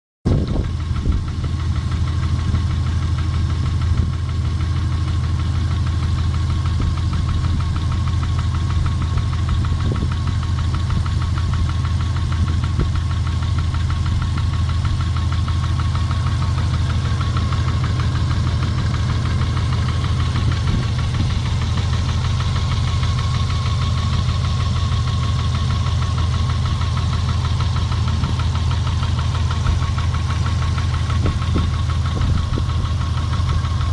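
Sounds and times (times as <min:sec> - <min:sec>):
engine running with fast knock: 0:00.3 - 0:33.9.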